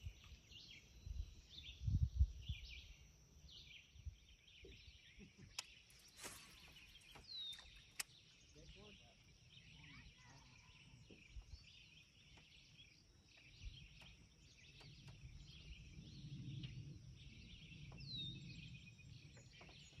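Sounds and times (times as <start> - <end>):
distant birds chirping: 0.0 - 20.0.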